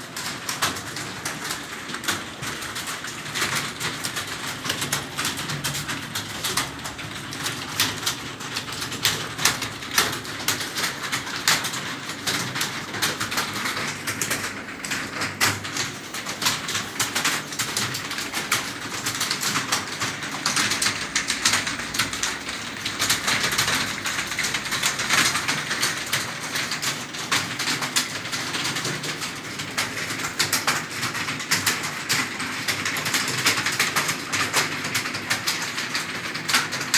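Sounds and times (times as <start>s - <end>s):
fast typing on keyboard: 0.0s - 36.9s.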